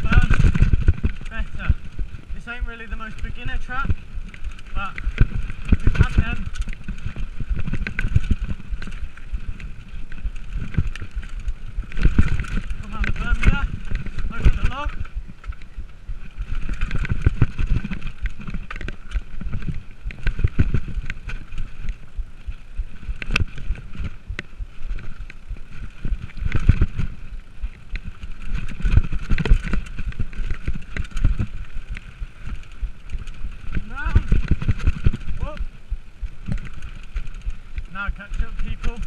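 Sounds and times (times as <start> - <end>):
bike rattling over bumps: 0.0 - 39.0
tyres rumbling on dirt: 0.0 - 39.0.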